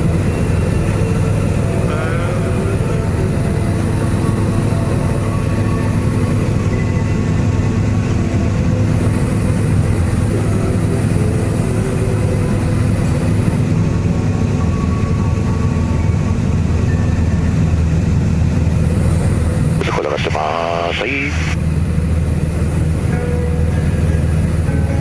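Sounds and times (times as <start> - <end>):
propeller plane engine drone: 0.0 - 25.0.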